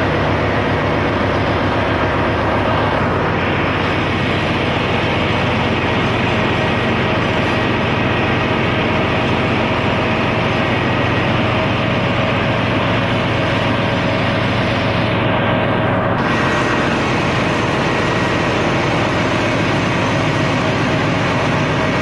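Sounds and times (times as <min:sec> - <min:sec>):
engine room machinery drone: 0:00.0 - 0:22.0
faint machinery whine: 0:00.0 - 0:22.0.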